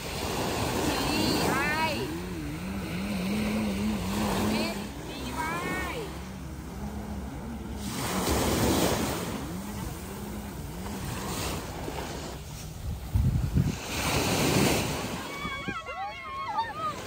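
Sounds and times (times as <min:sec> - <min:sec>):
sea waves washing onto beach: 0:00.0 - 0:17.0.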